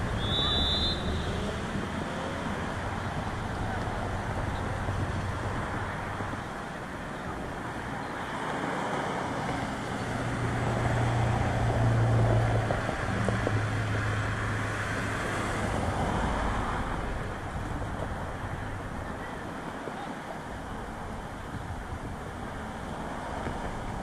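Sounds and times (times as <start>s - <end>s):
low engine hum: 0.0s - 19.7s
road traffic rush: 0.0s - 24.0s.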